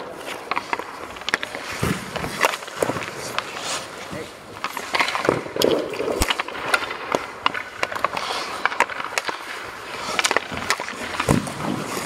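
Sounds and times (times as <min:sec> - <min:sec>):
hockey pucks clacking: 0:00.0 - 0:12.0
skate blades scraping ice: 0:00.0 - 0:12.0.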